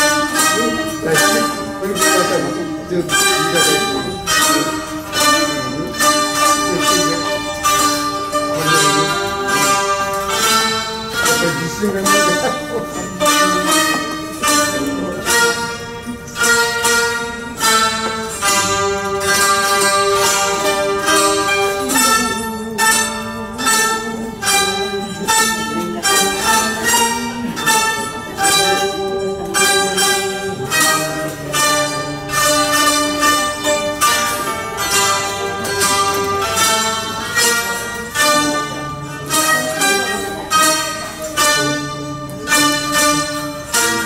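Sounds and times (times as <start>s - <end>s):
zithers plucking slow melody: 0.0s - 44.0s.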